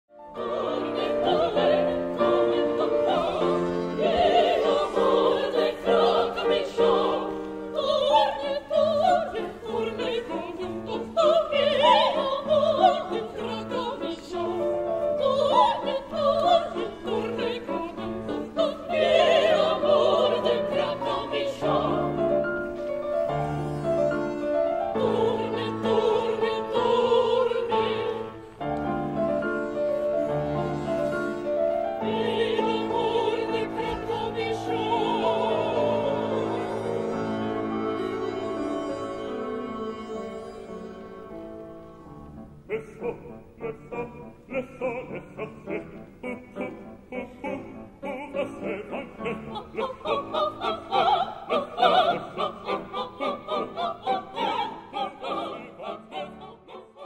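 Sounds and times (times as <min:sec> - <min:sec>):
piano accompaniment: 0:00.1 - 0:57.0
operatic singing: 0:00.2 - 0:41.8, 0:42.6 - 0:57.0.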